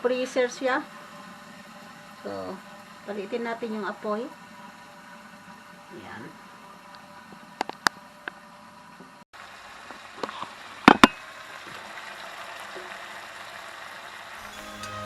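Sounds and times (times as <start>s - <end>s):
pot simmering with bubbling hiss: 0.8s - 14.4s.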